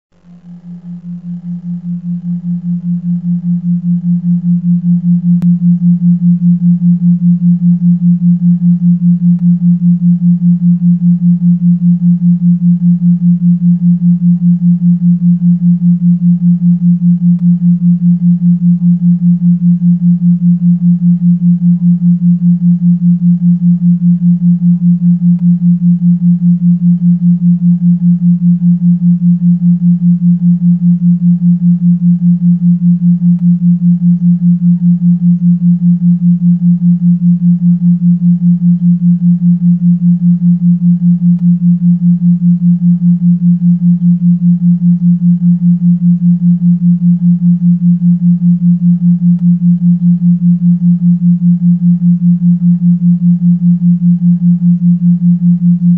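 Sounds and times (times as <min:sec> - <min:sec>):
low pulsing sine tone: 0:00.0 - 0:55.9.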